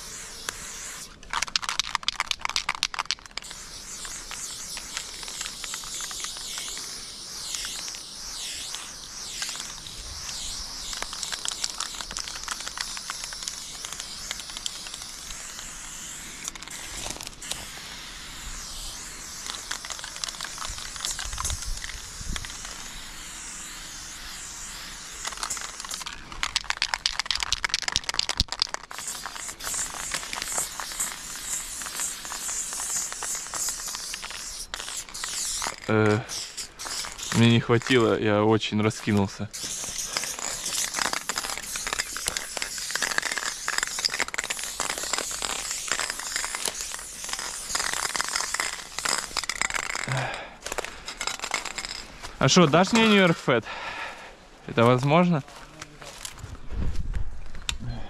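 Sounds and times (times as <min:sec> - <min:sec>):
aerosol spray can hissing: 0:00.0 - 0:54.1.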